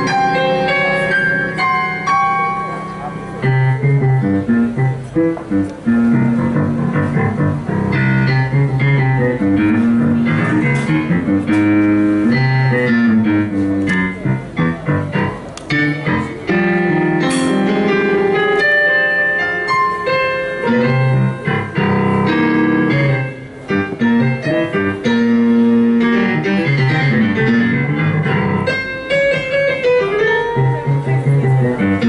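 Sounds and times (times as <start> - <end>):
electric keyboard chords and runs: 0.0 - 32.0
jazz band playing: 0.0 - 32.0.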